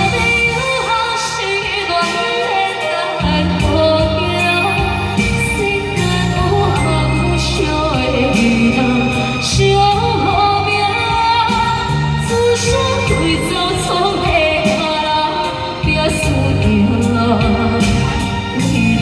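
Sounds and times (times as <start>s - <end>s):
pop song over karaoke backing track: 0.0s - 19.0s.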